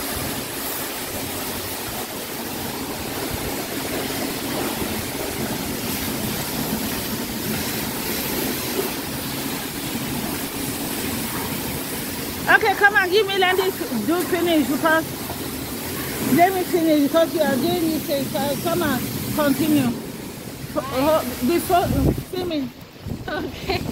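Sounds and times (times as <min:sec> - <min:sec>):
high-pressure water spray hissing: 0:00.0 - 0:23.9.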